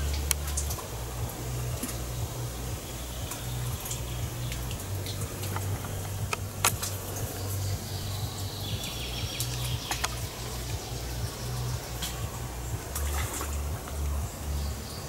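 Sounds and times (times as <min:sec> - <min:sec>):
steady low rumble: 0:00.0 - 0:15.0
water lapping and dripping: 0:00.0 - 0:15.0.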